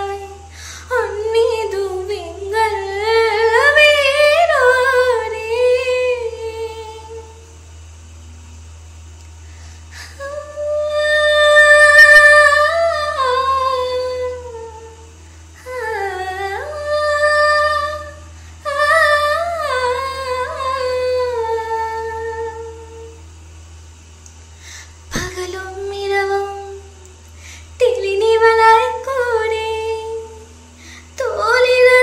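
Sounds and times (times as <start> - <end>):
woman singing unaccompanied: 0.0 - 7.4, 10.0 - 23.2, 25.1 - 27.1, 27.8 - 30.5, 31.2 - 32.0.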